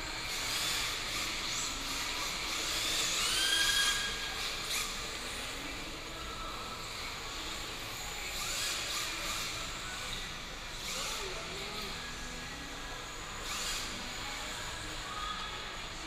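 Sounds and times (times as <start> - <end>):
toy car motor whine: 0.2 - 6.0, 6.8 - 12.4, 13.4 - 15.2.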